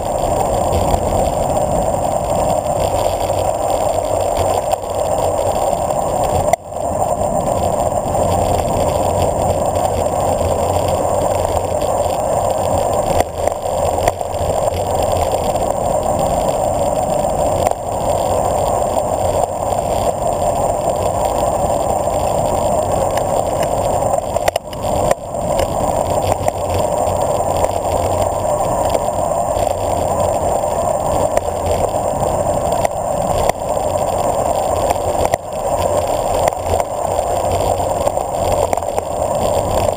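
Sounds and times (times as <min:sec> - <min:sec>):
tyre noise on asphalt: 0:00.0 - 0:39.9
wind rushing over microphone: 0:00.0 - 0:39.9.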